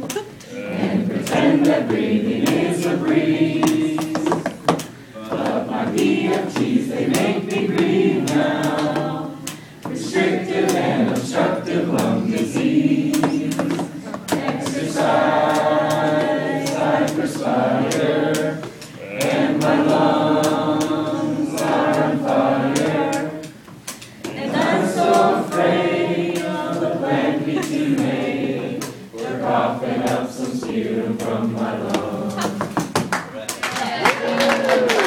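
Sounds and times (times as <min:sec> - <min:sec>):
choir chanting: 0:00.5 - 0:23.6, 0:24.2 - 0:32.8.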